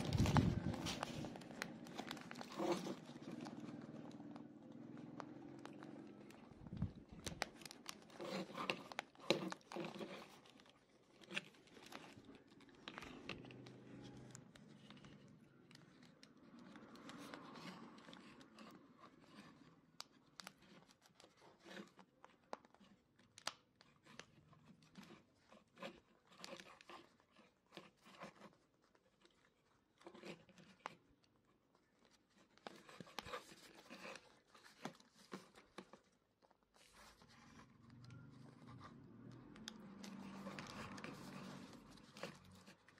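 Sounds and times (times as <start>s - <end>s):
hands rustling and scraping ear pad: 0.0s - 42.9s.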